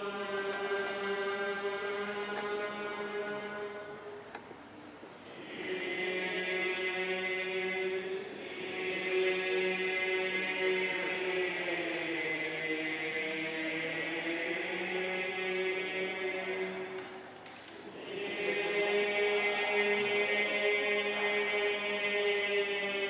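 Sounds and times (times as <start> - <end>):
monks chanting: 0.0 - 4.2, 5.3 - 17.2, 17.8 - 23.0.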